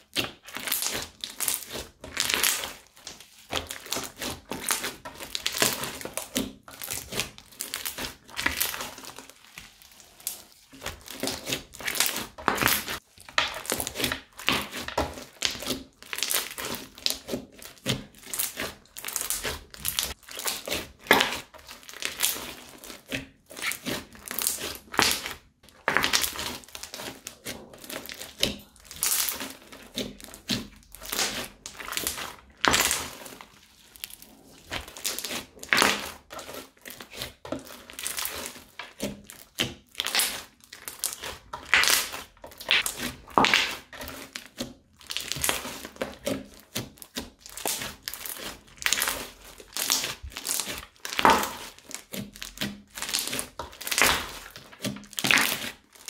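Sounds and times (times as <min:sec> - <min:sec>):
crunchy slime squishing: 0:00.0 - 0:56.0.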